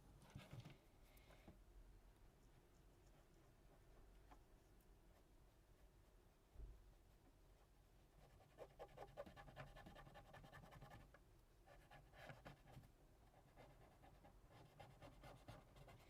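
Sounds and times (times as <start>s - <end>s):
faint rapid scratching and rubbing: 0.0s - 1.6s, 2.2s - 16.0s.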